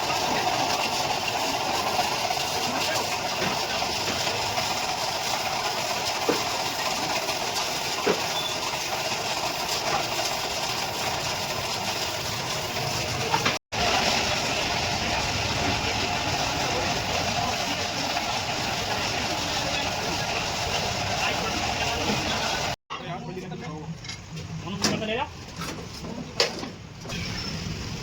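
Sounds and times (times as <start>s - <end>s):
tractor diesel engine running: 0.0s - 22.8s.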